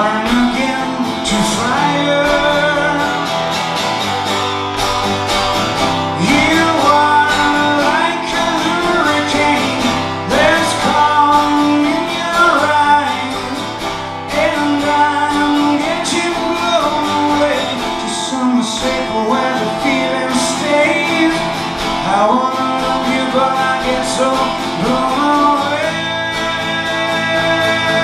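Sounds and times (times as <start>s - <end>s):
bending guitar lead line: 0.0s - 28.0s
live band with guitars: 0.0s - 28.0s.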